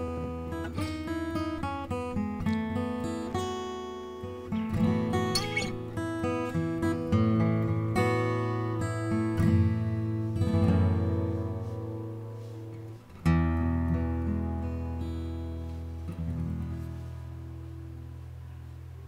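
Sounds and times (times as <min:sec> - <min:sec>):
acoustic guitar: 0:00.0 - 0:19.0.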